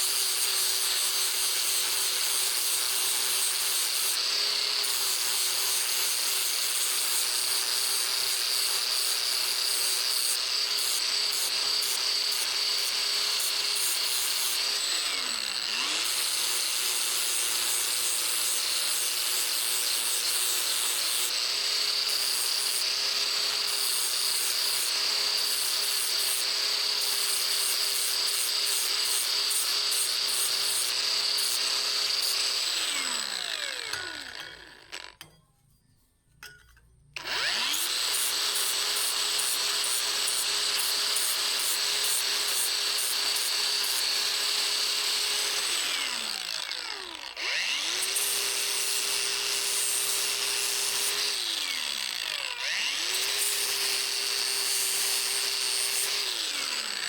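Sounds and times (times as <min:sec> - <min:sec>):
power tool grinding steel: 0:00.0 - 0:35.7, 0:36.4 - 0:57.0.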